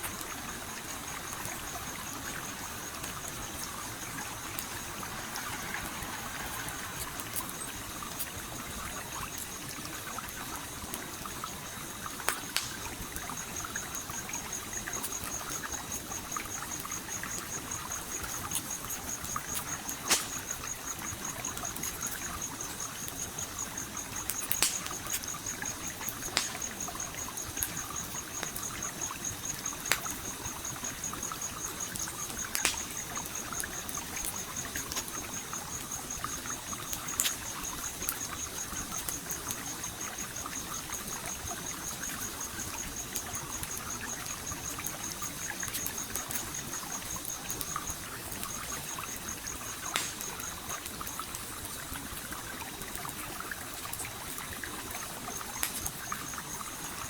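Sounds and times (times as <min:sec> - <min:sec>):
campfire crackling and popping: 0:00.0 - 0:57.0
stream water trickling: 0:00.0 - 0:57.0.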